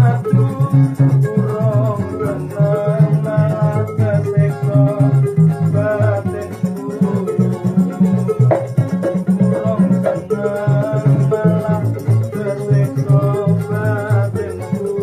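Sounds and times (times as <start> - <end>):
plucked cello bass line: 0.0 - 15.0
strummed small lutes: 0.0 - 15.0
wavering melody line: 0.0 - 15.0.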